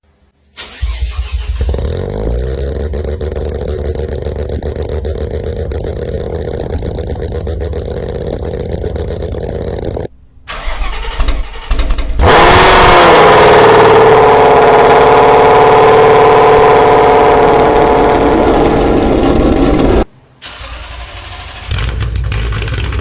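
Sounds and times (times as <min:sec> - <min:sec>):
loud engine rising and falling pitch: 0:00.6 - 0:10.1, 0:12.2 - 0:23.0
car engine starting and running: 0:00.6 - 0:23.0.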